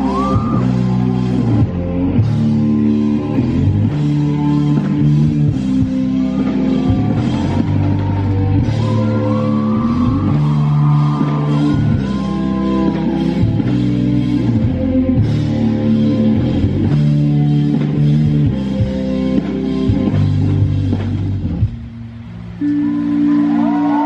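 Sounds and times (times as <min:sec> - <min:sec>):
high sliding guitar part: 0:00.0 - 0:24.0
rock band playing: 0:00.0 - 0:24.0.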